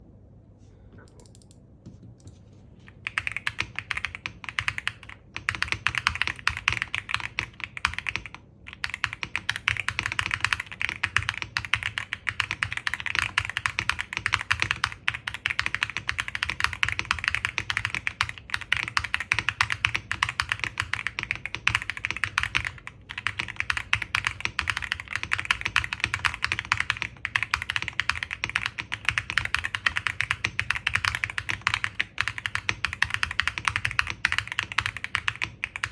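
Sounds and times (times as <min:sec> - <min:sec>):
fast mechanical keyboard typing: 0:02.9 - 0:35.9.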